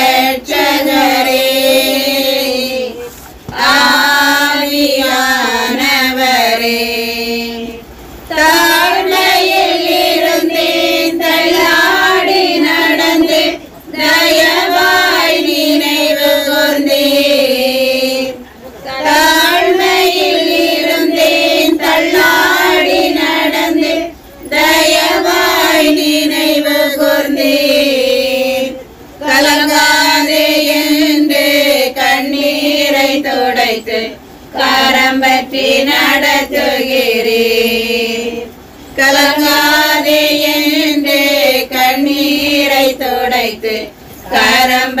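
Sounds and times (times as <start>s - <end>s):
high voices singing worship song: 0.0s - 45.0s.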